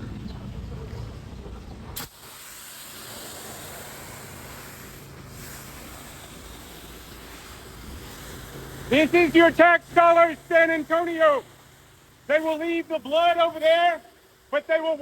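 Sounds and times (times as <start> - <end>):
pressure washer spray hissing: 2.0 - 15.0.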